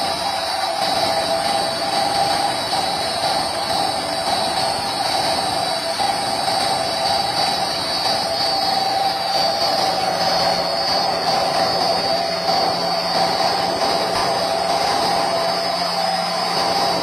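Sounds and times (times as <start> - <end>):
electric pump motor whining: 0.0 - 17.0.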